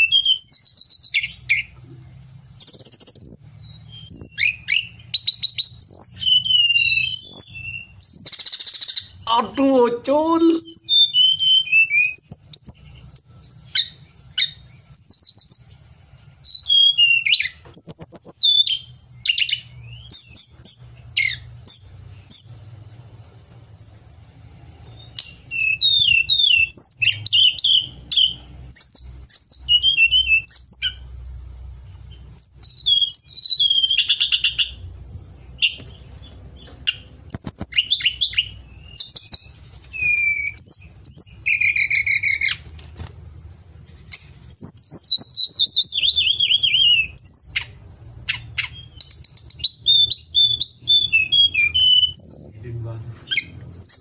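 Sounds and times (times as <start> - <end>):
bird singing whistles and trills: 0.0 - 15.8, 16.4 - 22.6, 24.9 - 31.1, 32.1 - 43.2, 44.0 - 54.0.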